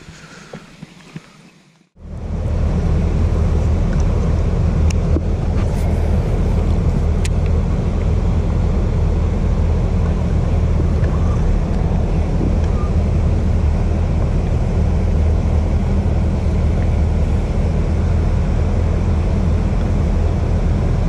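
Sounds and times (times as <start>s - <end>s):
water rushing: 0.0s - 21.0s
wind: 0.0s - 21.0s
outboard motor running: 2.0s - 21.0s.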